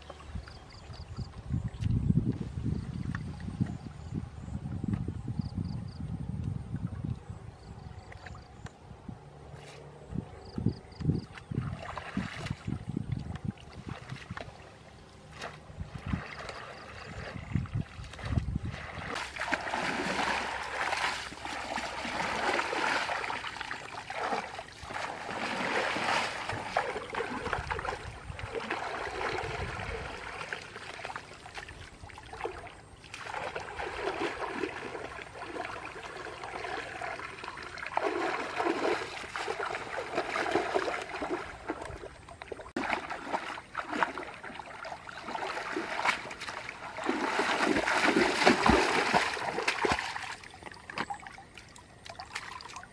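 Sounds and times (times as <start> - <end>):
muddy water splashing: 7.8 - 52.9.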